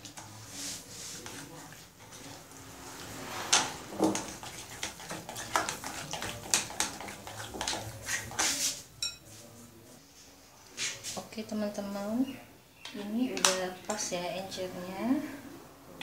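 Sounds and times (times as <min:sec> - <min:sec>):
hand mixing wet batter: 0:00.0 - 0:15.4.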